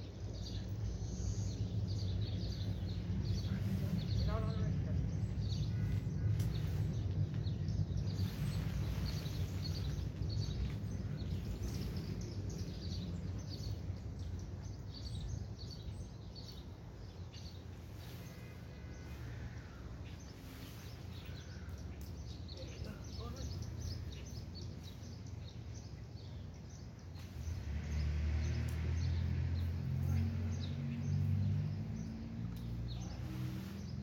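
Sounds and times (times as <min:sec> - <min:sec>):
steady low rumble: 0:00.0 - 0:28.0
small birds chirping: 0:00.0 - 0:34.0.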